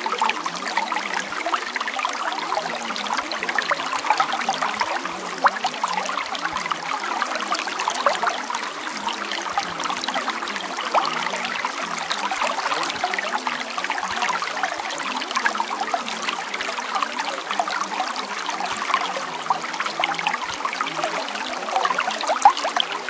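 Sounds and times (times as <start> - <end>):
small water splashes: 0.0 - 23.0
trickling stream: 0.0 - 23.0.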